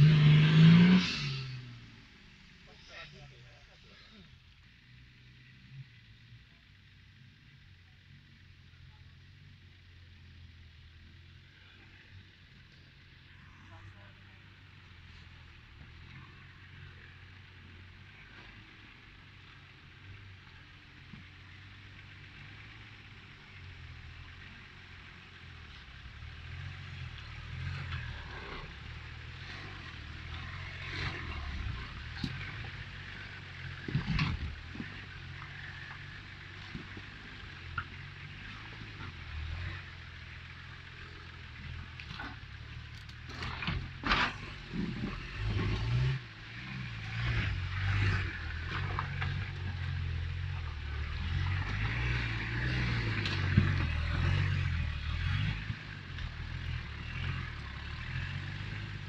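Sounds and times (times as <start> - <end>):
vehicle engine running low: 0.0 - 59.0.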